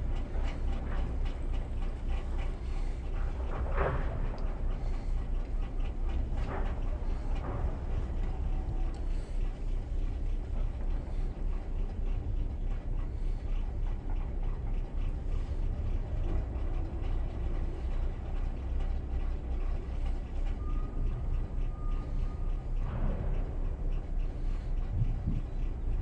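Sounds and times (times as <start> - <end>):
boat diesel engines rumbling: 0.0 - 26.0.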